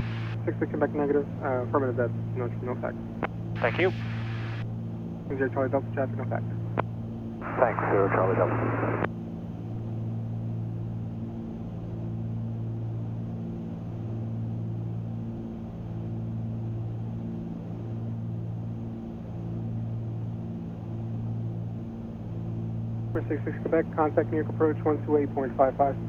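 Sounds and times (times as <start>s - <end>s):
aircraft engines and propellers drone: 0.0s - 26.0s.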